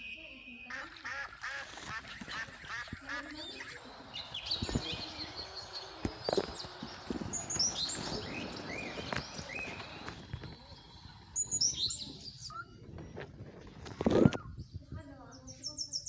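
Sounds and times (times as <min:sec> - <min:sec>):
bird chirps: 0:00.0 - 0:16.0
birds calling: 0:00.0 - 0:16.0.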